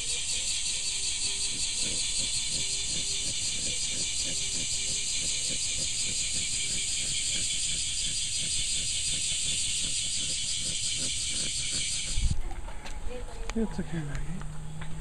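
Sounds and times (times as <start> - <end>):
pulsing insect drone: 0.0 - 12.4.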